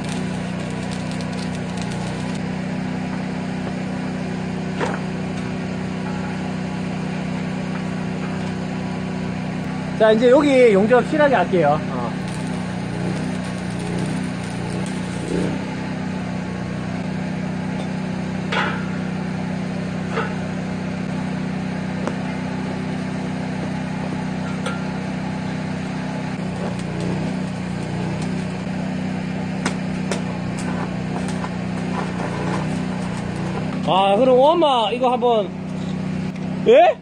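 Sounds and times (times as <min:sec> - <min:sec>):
welding arc crackling hiss: 0:00.0 - 0:36.4
welder electrical hum: 0:00.0 - 0:37.0.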